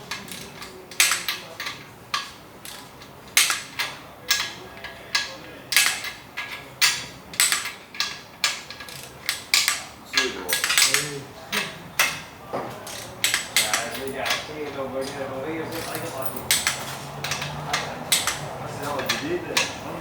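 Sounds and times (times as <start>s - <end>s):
ratchet wrench clicking: 0.0s - 11.1s, 12.8s - 20.0s.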